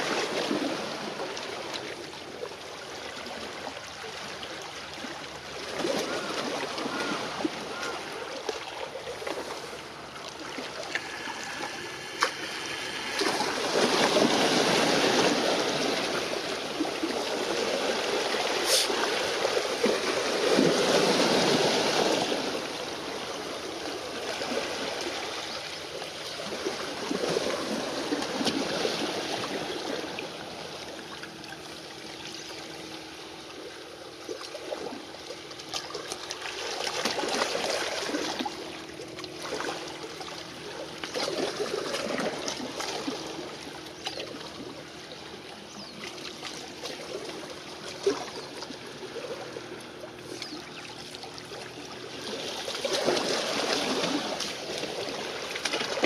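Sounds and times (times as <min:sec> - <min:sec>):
faint steady hum: 0:00.0 - 0:56.0
small waves lapping and splashing: 0:00.0 - 0:56.0.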